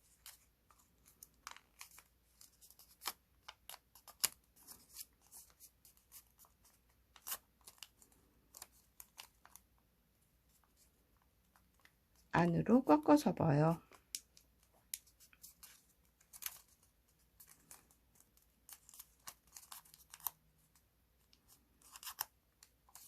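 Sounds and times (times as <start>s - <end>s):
paper being folded and creased: 0.0s - 12.3s, 13.8s - 23.0s.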